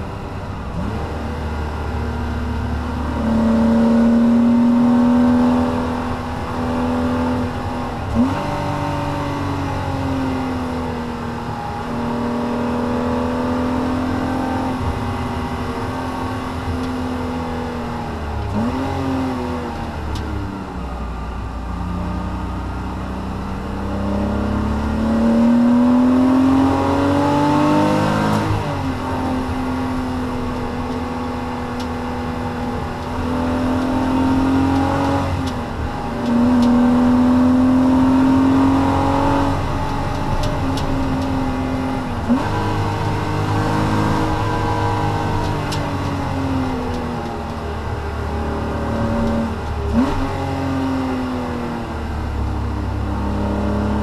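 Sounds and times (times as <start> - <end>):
car engine revving: 0.0 - 20.8, 21.8 - 54.0
tyre and road noise: 0.0 - 54.0.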